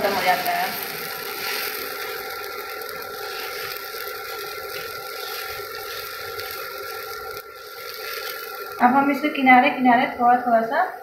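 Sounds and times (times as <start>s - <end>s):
batter sizzling in oil: 0.0s - 11.0s
steady high whine: 0.0s - 11.0s.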